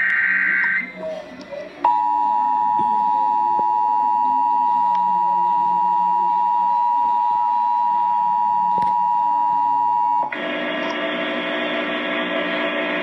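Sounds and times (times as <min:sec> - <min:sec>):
broadcast static hiss: 0:00.0 - 0:04.4, 0:06.2 - 0:13.0.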